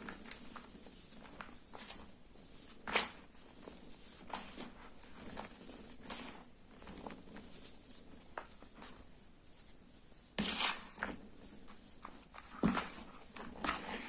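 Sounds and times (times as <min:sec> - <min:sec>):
chalk crumbling scratches: 0:00.0 - 0:14.0.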